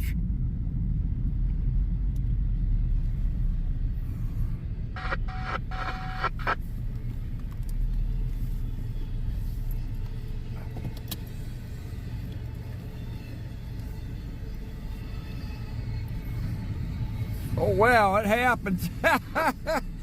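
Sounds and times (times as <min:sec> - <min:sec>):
freight train rumble: 0:00.0 - 0:20.0.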